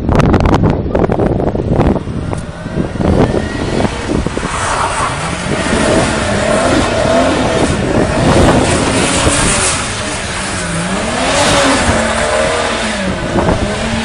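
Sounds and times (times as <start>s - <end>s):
car engine revving: 0.9s - 14.0s.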